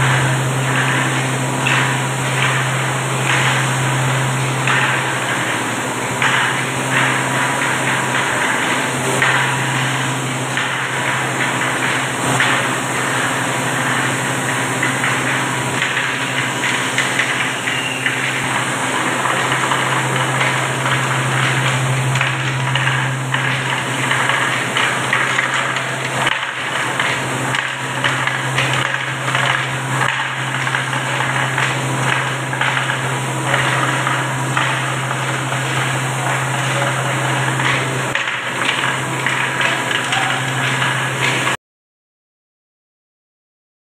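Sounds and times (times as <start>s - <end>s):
paper machine running: 0.0s - 41.6s.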